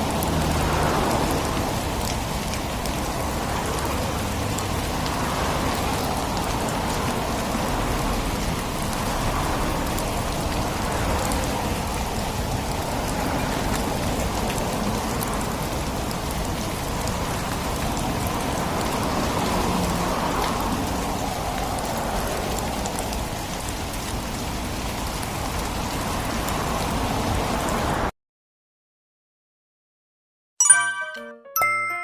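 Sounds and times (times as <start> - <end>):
rain falling on a road: 0.0 - 28.1.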